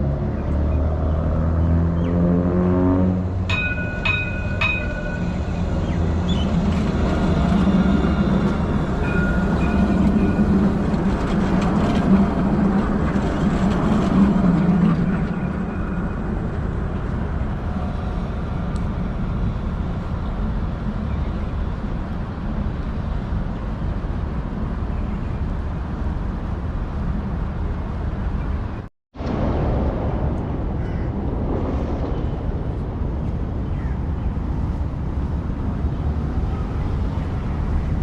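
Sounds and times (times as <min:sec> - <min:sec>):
tram running rumble: 0:00.0 - 0:38.0.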